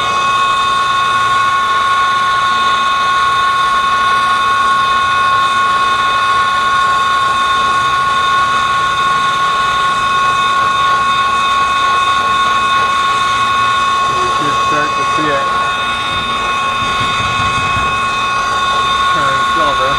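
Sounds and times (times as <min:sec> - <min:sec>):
high machine whine: 0:00.0 - 0:19.9.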